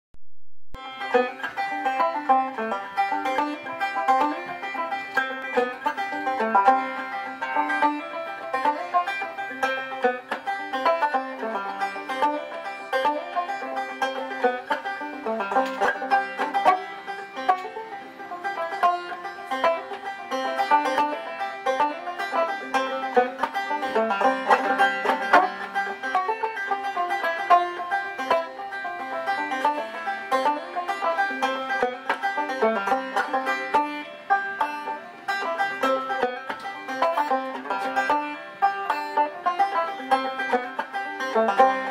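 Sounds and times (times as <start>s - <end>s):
banjo playing a tune: 0.8s - 41.9s.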